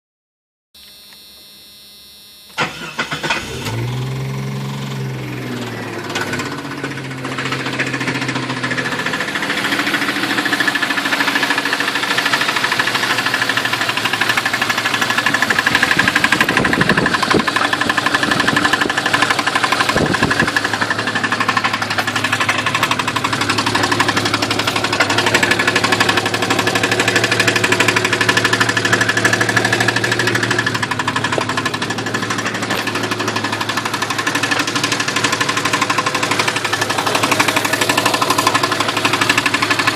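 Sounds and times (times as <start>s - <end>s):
engine running: 2.6s - 39.9s.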